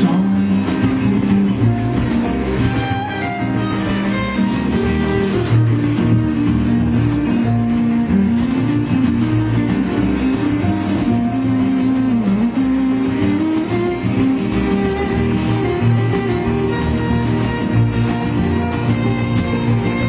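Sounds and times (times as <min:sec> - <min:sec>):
bowed fiddle: 0:00.0 - 0:20.0
picked banjo: 0:00.0 - 0:20.0
strummed acoustic guitar: 0:00.0 - 0:20.0
upright double bass: 0:00.0 - 0:20.0.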